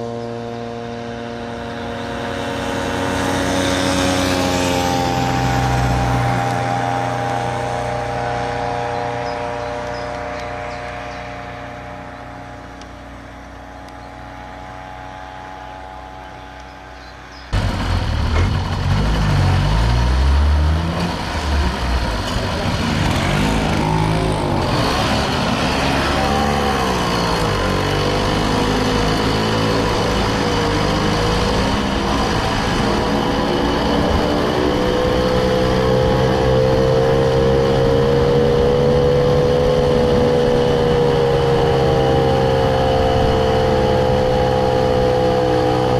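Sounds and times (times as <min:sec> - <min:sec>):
engine revving close up: 0:00.0 - 0:45.9
vehicle engine running: 0:00.0 - 0:45.9.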